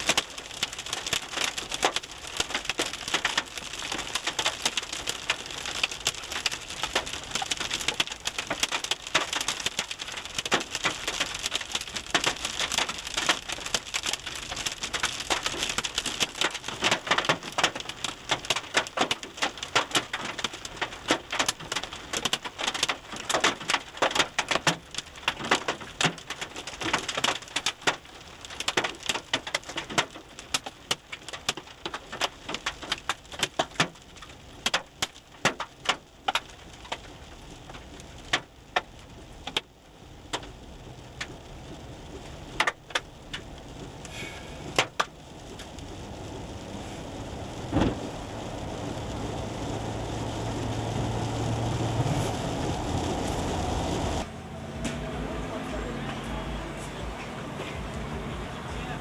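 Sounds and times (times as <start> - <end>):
hail and rain hitting car: 0.0 - 54.3, 57.8 - 59.0.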